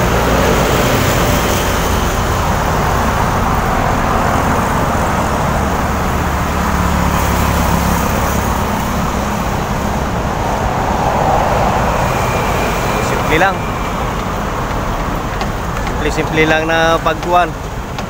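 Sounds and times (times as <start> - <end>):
cars passing on busy road: 0.0 - 18.0
low engine hum: 0.0 - 18.0.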